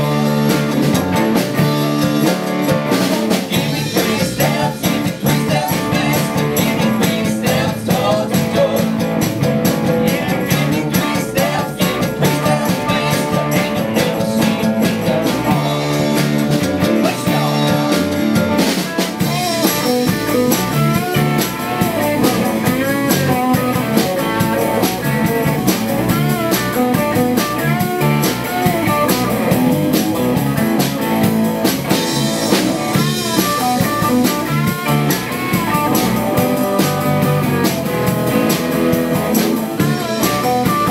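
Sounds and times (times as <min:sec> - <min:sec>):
electric guitar lead with bends: 0:00.0 - 0:40.9
live band playing: 0:00.0 - 0:40.9.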